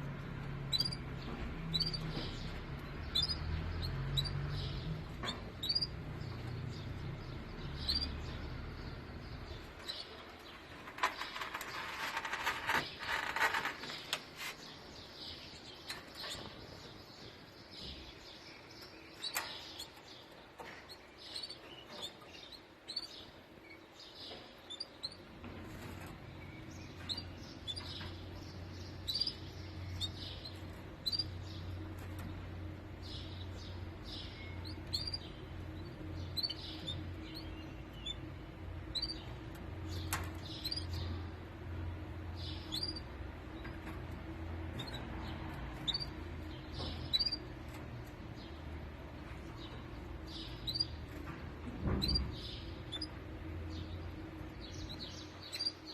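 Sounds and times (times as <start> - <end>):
canaries chirping: 0.0 - 55.9
steady low hum: 0.0 - 55.9.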